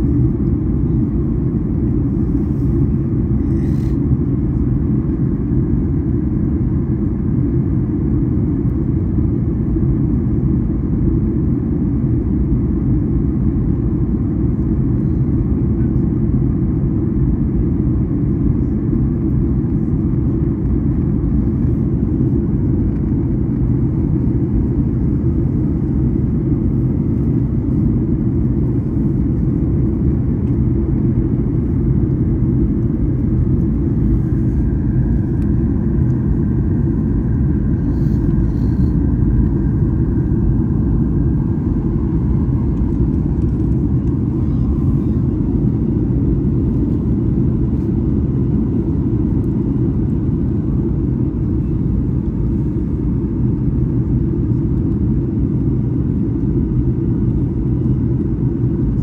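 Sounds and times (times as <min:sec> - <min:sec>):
airliner cabin rumble: 0:00.0 - 0:59.0
faint high hum: 0:00.0 - 0:59.0.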